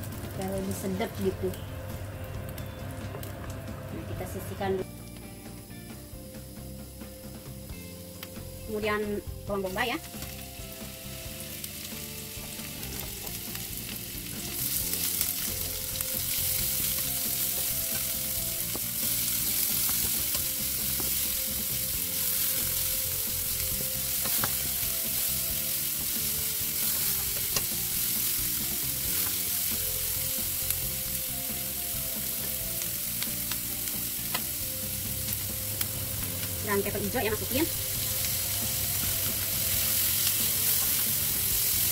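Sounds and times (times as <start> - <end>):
onion sizzling in oil: 0.0 - 41.9.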